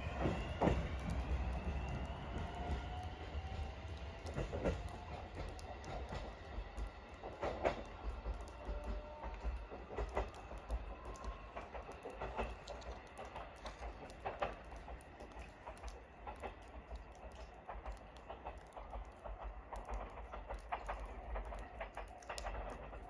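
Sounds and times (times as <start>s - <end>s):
distant train rumble: 0.0s - 23.0s
irregular clicks and ticks: 0.1s - 23.0s.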